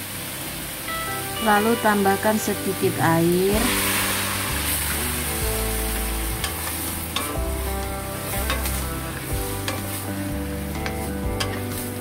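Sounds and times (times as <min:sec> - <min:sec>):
food sizzling: 0:00.0 - 0:12.0
background music with bass: 0:00.8 - 0:12.0.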